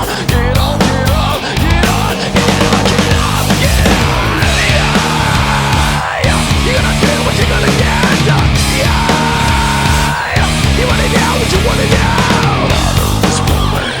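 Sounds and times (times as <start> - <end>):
loud hard rock music: 0.0 - 14.0.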